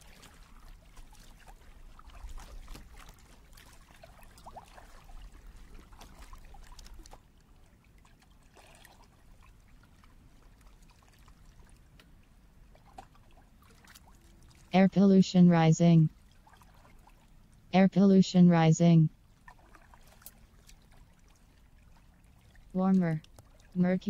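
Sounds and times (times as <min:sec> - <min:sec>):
small waves lapping against hull: 0:00.0 - 0:14.8, 0:16.1 - 0:17.7, 0:19.1 - 0:23.8
water splashes and drips: 0:00.0 - 0:14.8, 0:16.1 - 0:17.7, 0:19.2 - 0:23.8.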